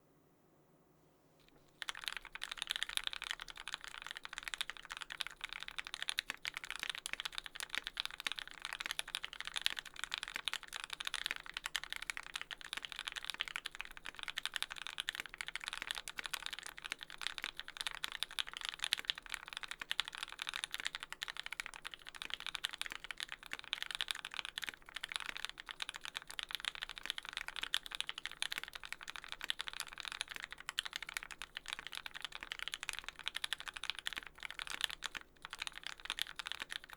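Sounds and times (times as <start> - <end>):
fast typing on mechanical keyboard: 1.7 - 36.9.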